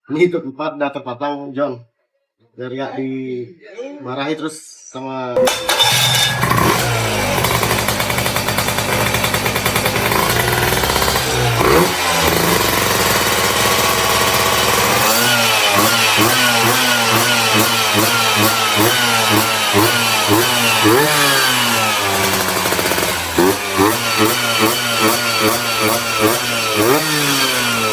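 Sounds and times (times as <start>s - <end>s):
scooter engine idling: 5.4s - 27.9s
scooter engine revving: 5.4s - 27.9s.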